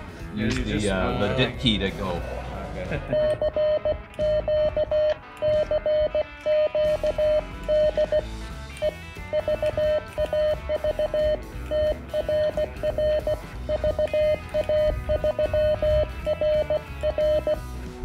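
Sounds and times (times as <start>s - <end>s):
music with drums: 1.6s - 18.0s
morse code beeps: 3.1s - 17.7s.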